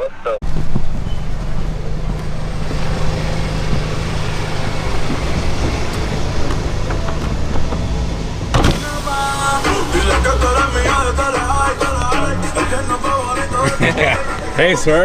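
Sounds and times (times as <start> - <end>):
car engine hum: 0.0 - 15.0
road and wind noise: 0.0 - 15.0.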